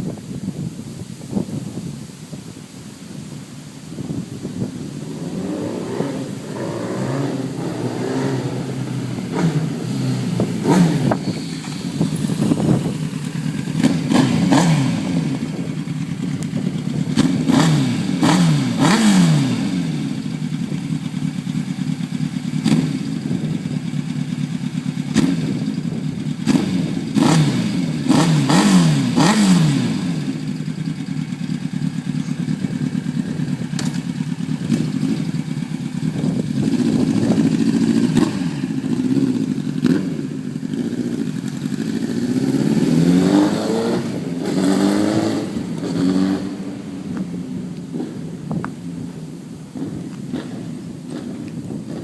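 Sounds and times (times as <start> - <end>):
motorcycle engine revving: 3.9 - 52.0.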